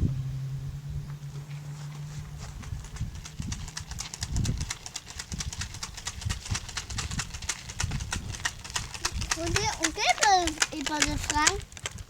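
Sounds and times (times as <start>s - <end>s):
bicycle clicking rapidly: 2.0s - 12.0s.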